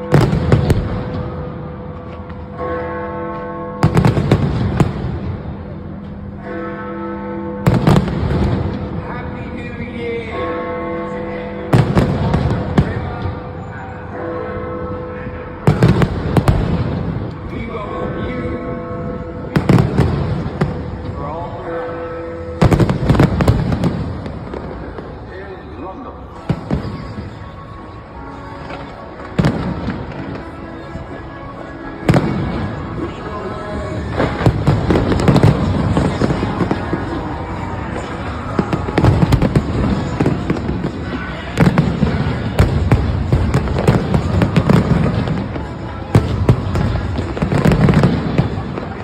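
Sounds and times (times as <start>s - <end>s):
fireworks bangs: 0.0s - 2.8s, 3.8s - 6.6s, 7.6s - 10.3s, 11.7s - 14.2s, 15.6s - 25.7s, 26.3s - 49.0s
crowd noise: 0.0s - 49.0s.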